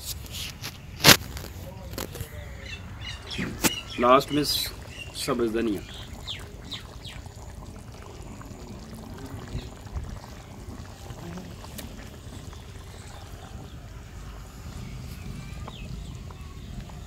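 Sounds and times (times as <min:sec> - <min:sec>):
curry bubbling in a pan: 0:02.1 - 0:17.0.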